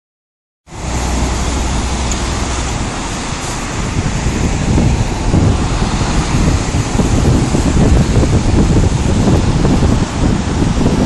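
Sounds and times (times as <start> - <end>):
strong wind on microphone: 0.7 - 11.0.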